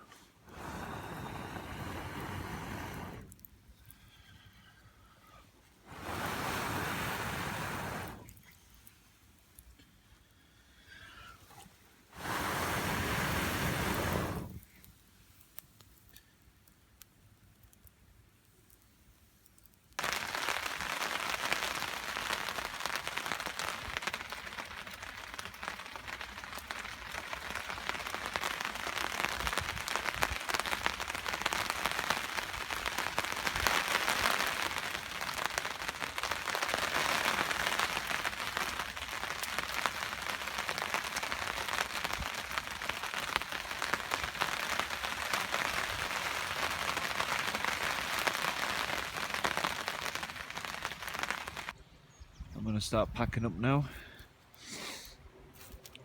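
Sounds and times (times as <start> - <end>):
steady rain falling: 0.0 - 3.6, 5.6 - 10.2, 11.8 - 51.8.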